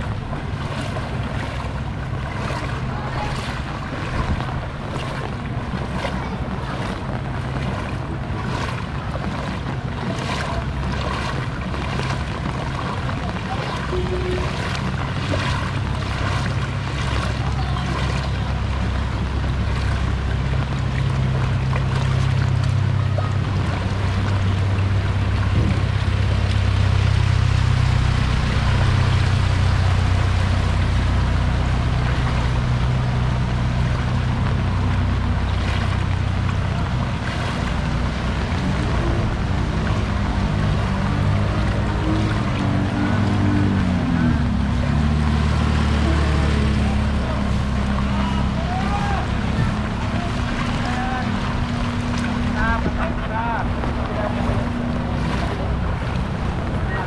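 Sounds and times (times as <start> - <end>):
low engine hum: 0.0 - 57.0
wading through water: 0.0 - 57.0.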